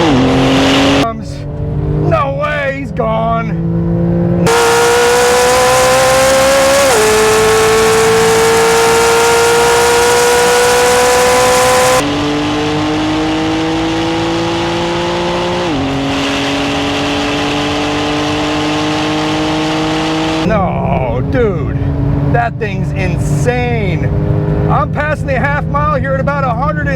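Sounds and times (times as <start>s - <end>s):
car engine at full throttle: 0.0s - 26.9s.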